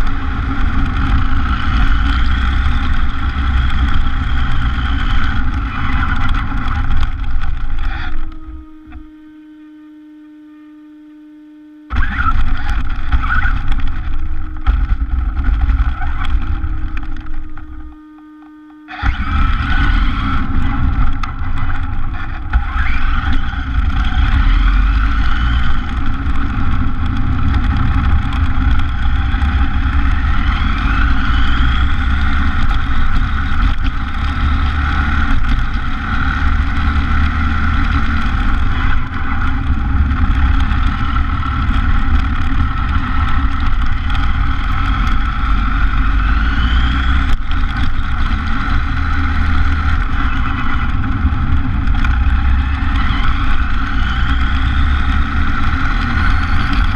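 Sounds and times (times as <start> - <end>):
rc car motor and tyre rumble: 0.0 - 10.4, 11.9 - 56.9
faint steady hum: 0.0 - 56.9.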